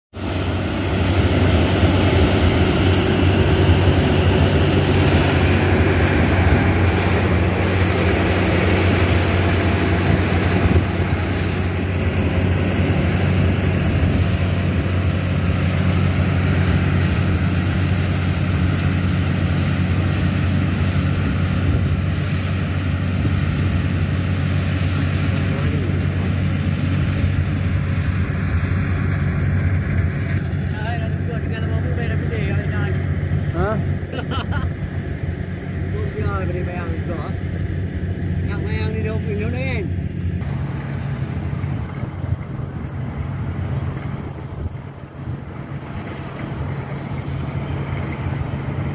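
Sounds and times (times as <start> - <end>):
combine harvester engine hum: 0.1 - 48.9.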